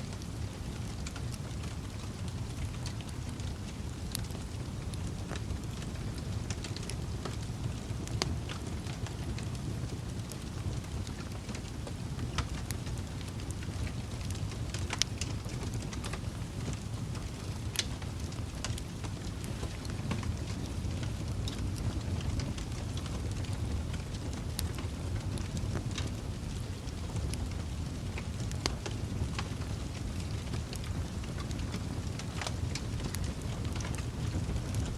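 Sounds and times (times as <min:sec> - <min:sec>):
fire crackles and pops: 0:00.0 - 0:34.9
low rumble of flames: 0:00.0 - 0:34.9.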